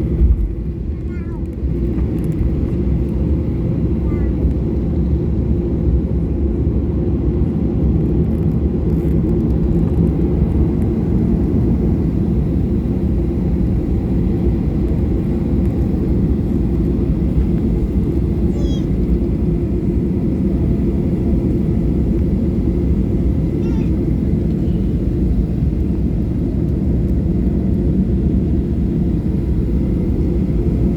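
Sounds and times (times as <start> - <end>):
jet engines droning in cabin: 0.0 - 30.9.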